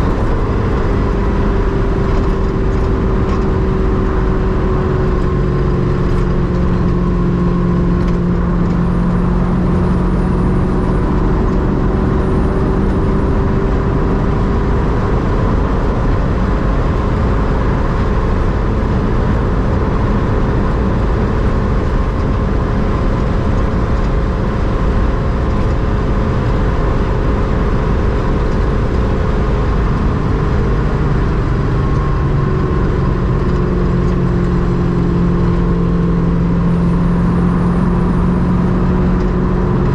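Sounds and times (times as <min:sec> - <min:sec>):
car engine cruising: 0:00.0 - 0:39.9
road and tyre noise: 0:00.0 - 0:39.9.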